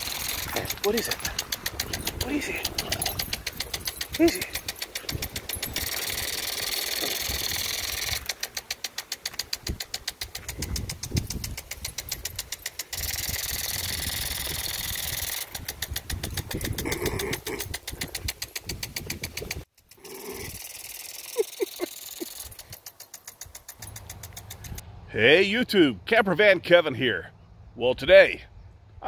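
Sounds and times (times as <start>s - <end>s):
sprinkler rapid ticking: 0.0s - 24.8s
sprinkler spray hissing: 0.0s - 24.8s.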